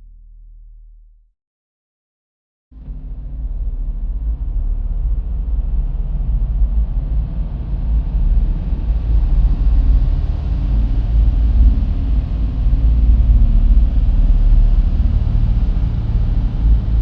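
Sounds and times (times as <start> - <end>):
deep steady rumble: 2.8 - 17.0.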